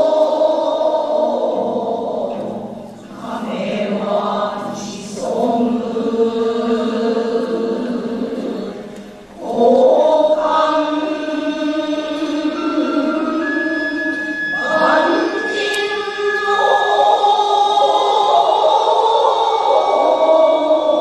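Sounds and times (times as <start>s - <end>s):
massed chorus chanting poetry: 0.0s - 21.0s.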